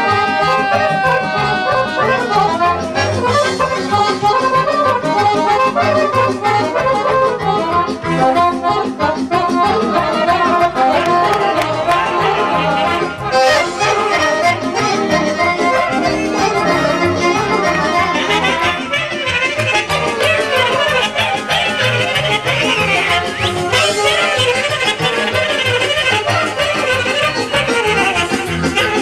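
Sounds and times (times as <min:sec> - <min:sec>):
accordion folk melody: 0:00.0 - 0:29.0
band playing dance beat: 0:00.0 - 0:29.0.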